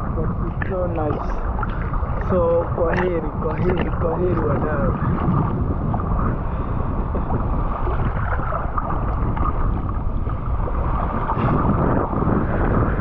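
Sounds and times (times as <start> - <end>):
water sloshing and splashing: 0.0 - 13.0
wind buffeting microphone: 0.0 - 13.0.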